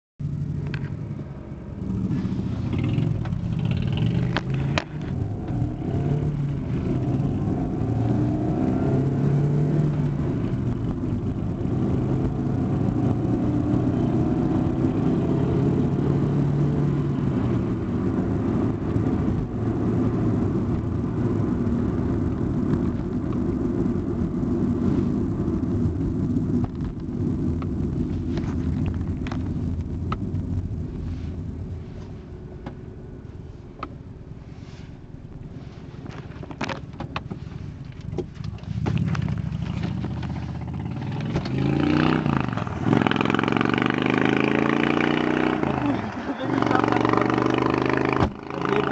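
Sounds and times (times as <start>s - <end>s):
vehicle engines running: 0.2s - 48.9s.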